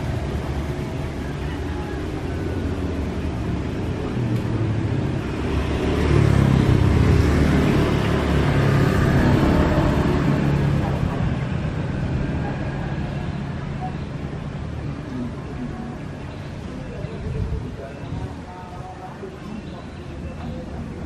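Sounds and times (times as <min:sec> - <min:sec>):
vehicle rumbling by: 0:00.0 - 0:17.4.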